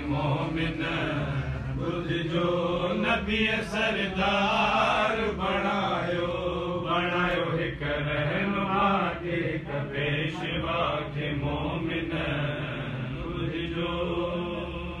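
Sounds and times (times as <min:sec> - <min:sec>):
men chanting unaccompanied: 0:00.0 - 0:15.0.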